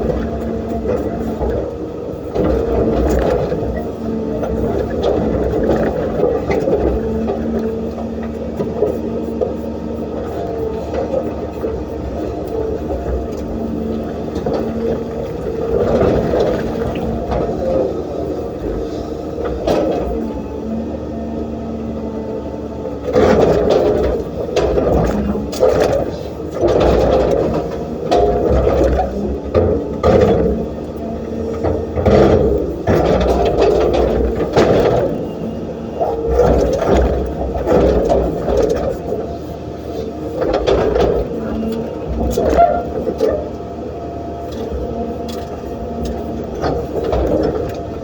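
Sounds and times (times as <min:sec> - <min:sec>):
excavator diesel engine under load: 0:00.0 - 0:48.0.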